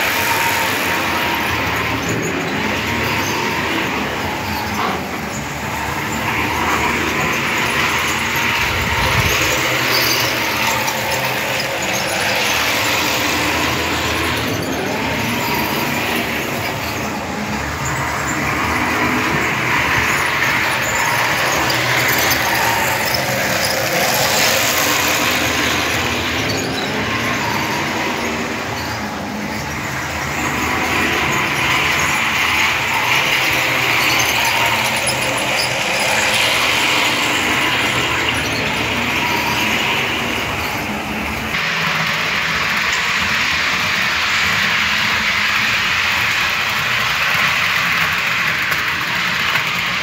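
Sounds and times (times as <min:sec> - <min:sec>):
model train whirring on rails: 0:00.0 - 0:50.0.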